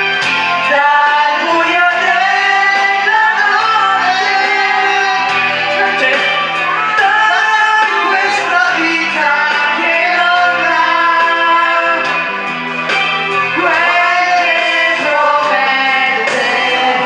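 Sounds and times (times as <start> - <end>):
song with singing voice: 0.0 - 17.0.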